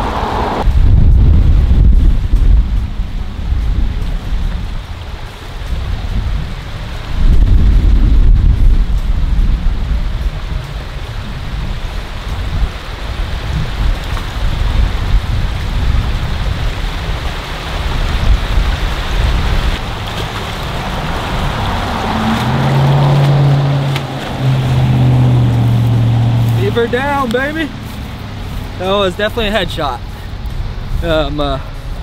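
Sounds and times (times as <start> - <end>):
wind gusting on microphone: 0.0 - 32.0.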